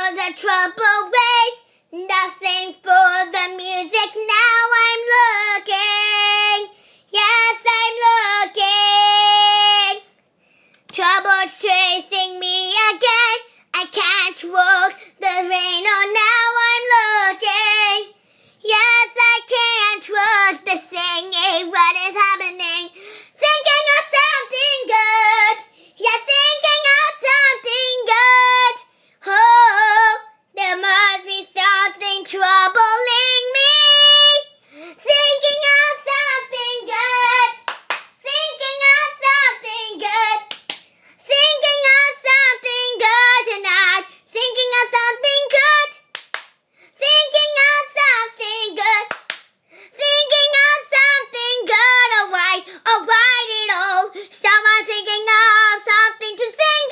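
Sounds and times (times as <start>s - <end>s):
girl singing with vibrato: 0.0s - 10.2s, 10.9s - 56.9s.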